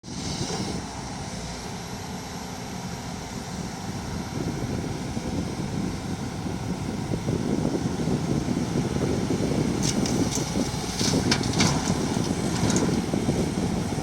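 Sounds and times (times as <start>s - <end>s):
excavator diesel engine running: 0.1s - 14.0s.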